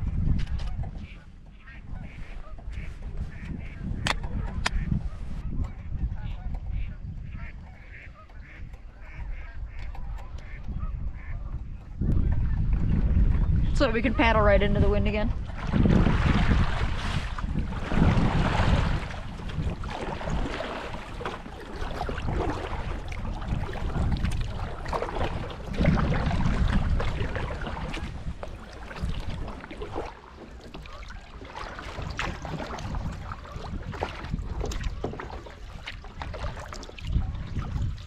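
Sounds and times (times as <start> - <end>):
paddle splashing in water: 0.0 - 38.0
wind buffeting microphone: 0.0 - 38.0.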